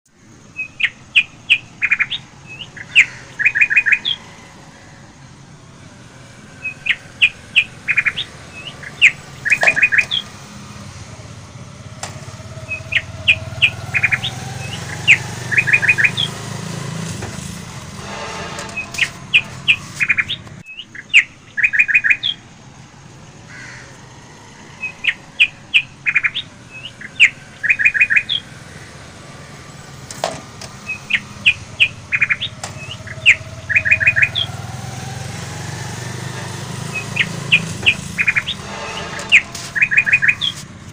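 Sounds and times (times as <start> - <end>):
bird chirps and trills: 0.4 - 5.2, 6.1 - 11.1, 11.7 - 22.4, 24.6 - 28.9, 30.7 - 40.7.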